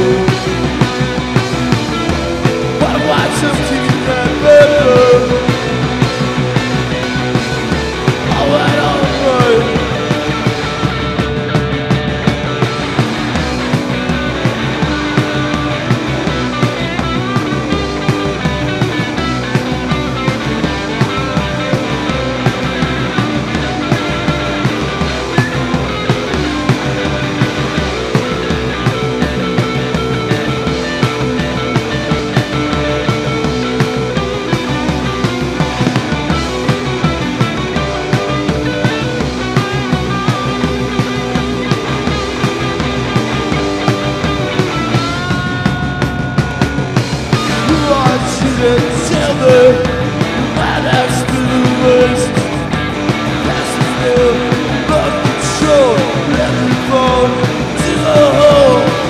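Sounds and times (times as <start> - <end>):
drums with steady beat: 0.0 - 59.0
electric guitar: 0.0 - 59.0.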